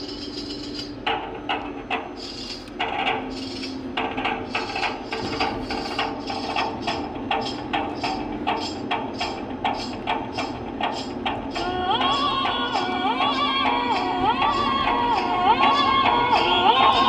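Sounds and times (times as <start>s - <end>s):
music with percussive beat: 0.0s - 17.0s.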